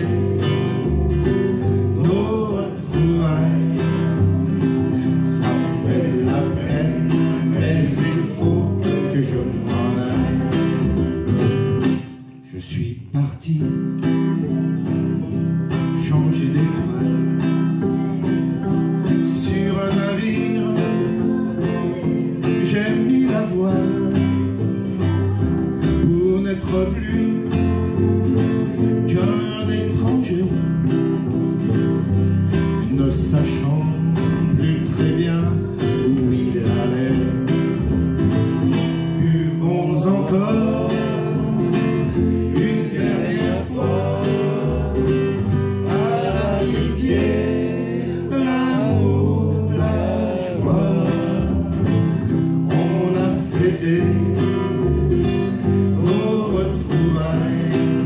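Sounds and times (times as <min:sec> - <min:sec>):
plucked double bass: 0:00.0 - 0:12.8, 0:13.6 - 0:58.0
acoustic guitar strumming: 0:00.0 - 0:58.0.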